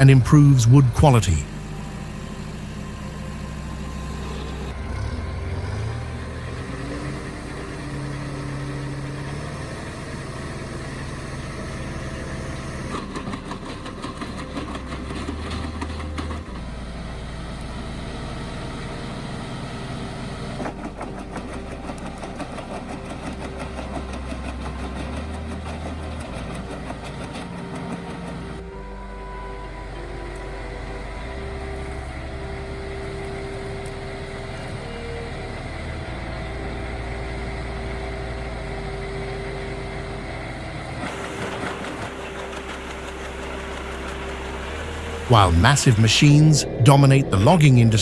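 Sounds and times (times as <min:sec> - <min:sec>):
heavy machinery engine drone: 0:00.0 - 0:48.0.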